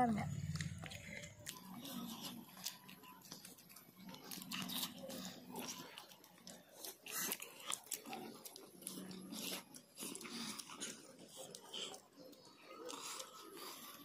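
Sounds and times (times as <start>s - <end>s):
crunching fried fish: 0.3s - 14.0s.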